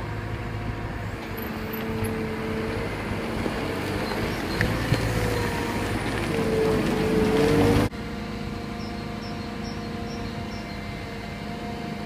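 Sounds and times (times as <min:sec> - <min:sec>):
diesel engine running: 0:00.0 - 0:12.0
held machine whine: 0:01.0 - 0:12.0.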